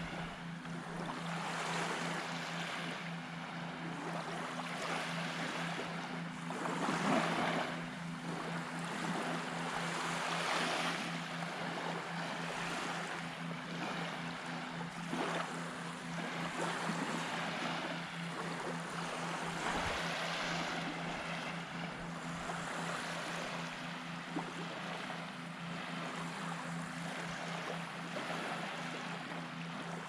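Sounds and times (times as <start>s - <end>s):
small waves washing onto beach: 0.0s - 30.0s
steady low hum: 0.0s - 30.0s.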